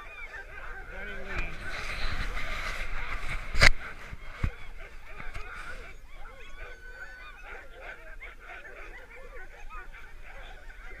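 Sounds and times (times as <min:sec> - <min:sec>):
sled dogs yelping and howling: 0:00.0 - 0:11.0.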